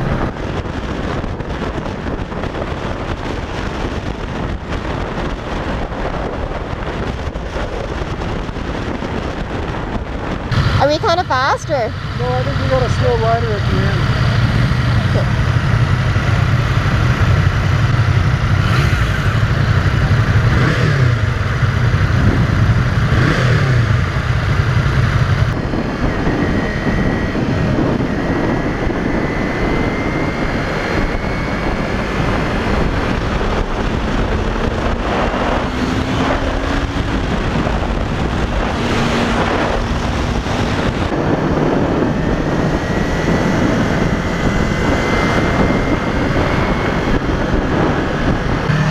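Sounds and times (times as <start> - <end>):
heavy low rumble: 0.0 - 48.9
motorcycle engine accelerating: 0.0 - 48.9
road and wind noise: 0.0 - 48.9.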